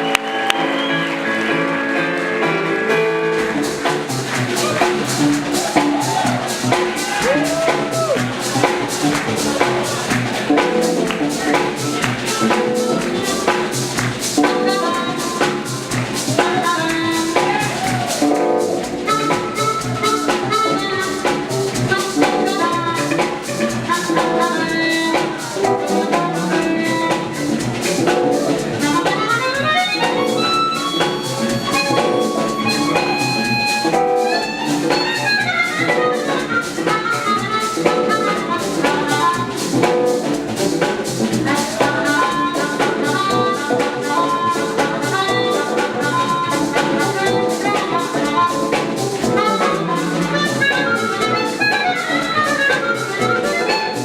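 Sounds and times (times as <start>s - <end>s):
drum kit: 0.0s - 54.0s
horn section: 0.0s - 54.0s
keyboards: 0.0s - 54.0s.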